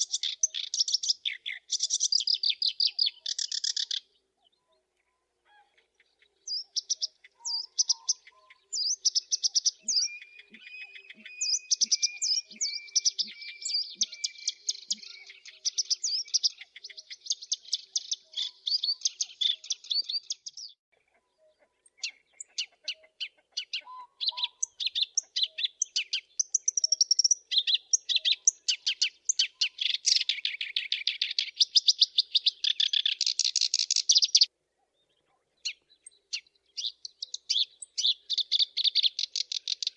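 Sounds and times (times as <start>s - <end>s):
warbler singing: 0.0s - 39.9s.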